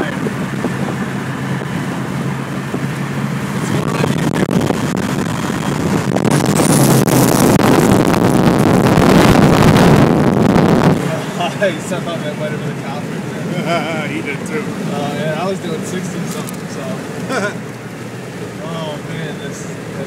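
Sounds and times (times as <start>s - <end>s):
low engine hum: 0.0s - 20.0s
wind and road noise: 0.0s - 20.0s.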